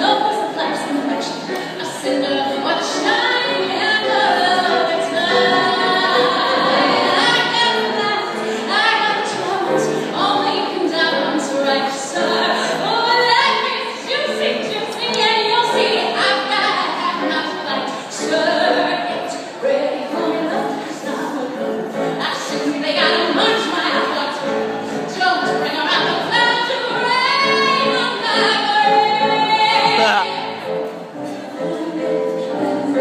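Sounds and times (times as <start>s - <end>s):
piano accompaniment: 0.0s - 33.0s
woman singing into microphone: 0.0s - 33.0s.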